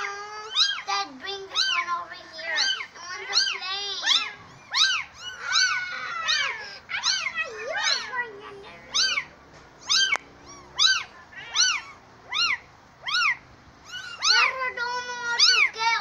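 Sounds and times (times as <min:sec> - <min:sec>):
kittens meowing: 0:00.0 - 0:16.0.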